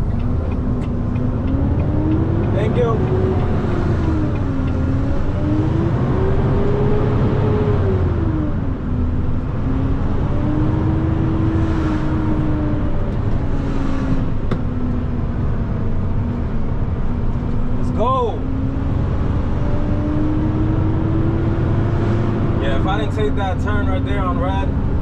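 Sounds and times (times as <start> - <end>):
truck diesel engine accelerating: 0.0 - 25.0.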